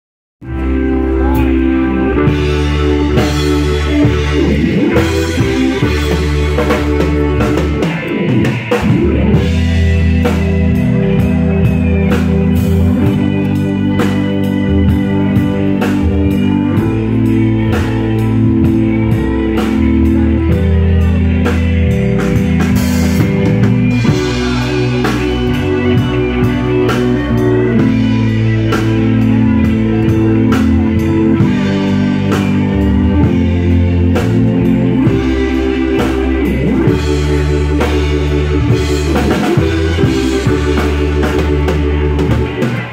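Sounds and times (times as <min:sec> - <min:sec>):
drum kit beat: 0:00.4 - 0:42.9
guitar: 0:00.4 - 0:42.9
heavy bass line: 0:00.4 - 0:42.9
keyboards: 0:00.4 - 0:42.9.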